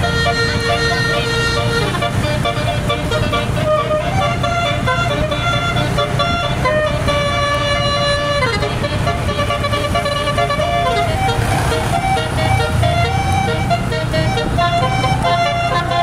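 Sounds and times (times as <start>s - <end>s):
bus engine running: 0.0s - 16.0s
musical air horn playing a tune: 0.0s - 16.0s.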